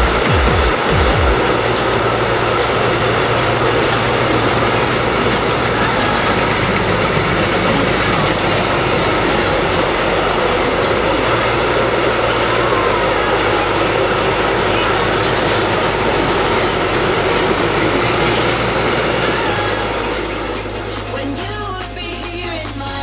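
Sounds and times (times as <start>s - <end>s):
train wheels rolling on rails: 0.0s - 23.0s.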